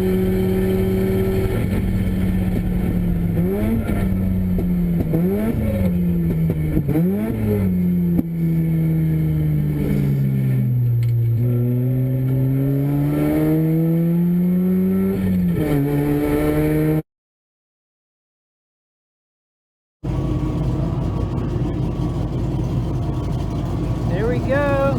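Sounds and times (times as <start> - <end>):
race car rotary engine revving: 0.0 - 17.0, 20.1 - 24.9.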